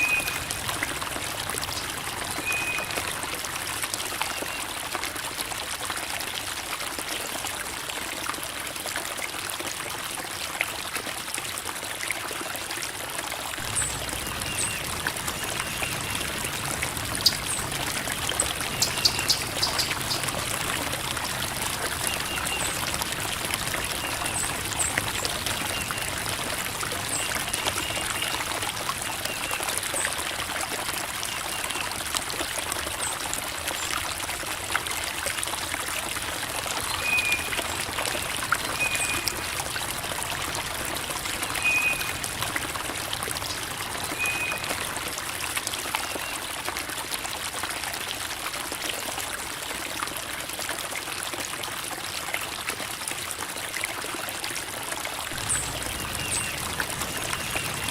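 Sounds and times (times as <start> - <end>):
creek babbling over rocks: 0.0 - 57.9.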